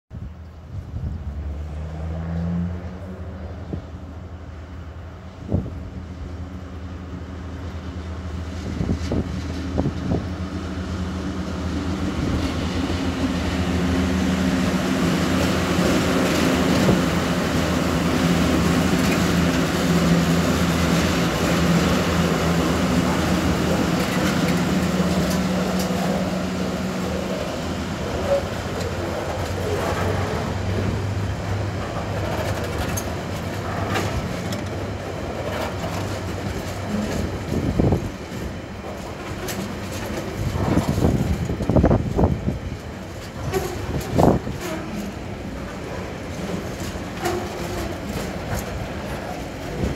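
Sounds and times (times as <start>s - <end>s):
diesel locomotive engine hum: 0.1s - 49.9s
rolling rumble of wagons: 5.2s - 49.9s
wheels clicking on rails: 8.8s - 49.9s.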